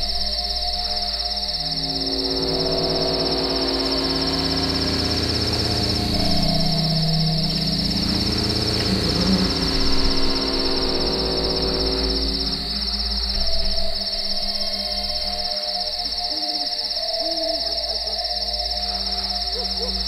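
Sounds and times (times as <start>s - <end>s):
crickets chirring: 0.0s - 20.0s
eerie low drone: 0.0s - 20.0s.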